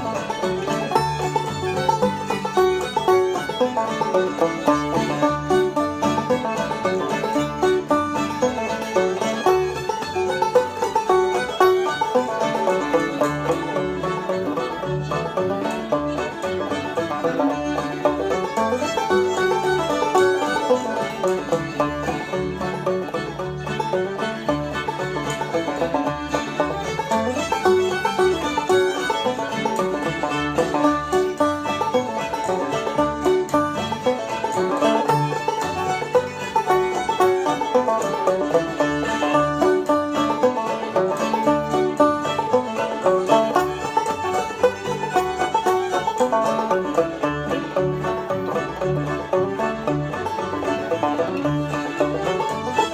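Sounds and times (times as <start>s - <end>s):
banjo picking: 0.0s - 52.9s.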